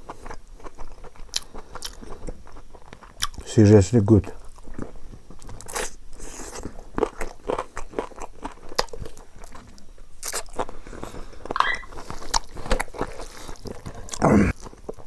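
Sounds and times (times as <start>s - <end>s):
chewing and mouth smacking: 0.0s - 3.5s, 4.4s - 15.0s.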